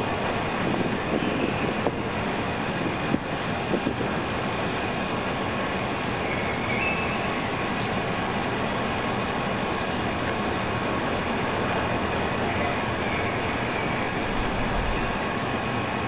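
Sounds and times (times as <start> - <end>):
city traffic hiss and rumble: 0.0 - 16.0.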